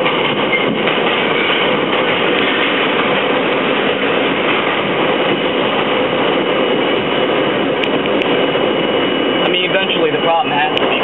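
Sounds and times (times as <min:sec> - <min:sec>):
subway train wheels rumbling on rail: 0:00.0 - 0:11.0.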